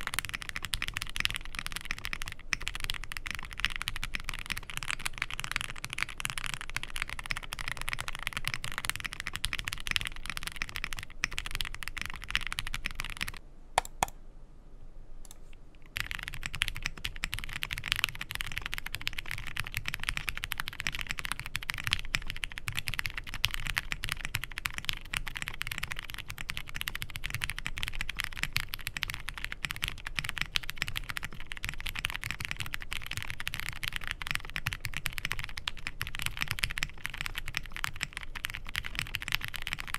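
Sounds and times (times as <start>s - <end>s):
fast mechanical keyboard typing: 0.0s - 14.1s, 15.9s - 39.9s.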